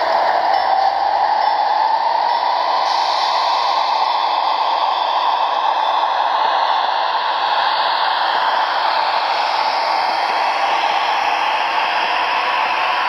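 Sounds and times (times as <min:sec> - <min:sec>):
model train diesel engine sound: 0:00.0 - 0:13.0.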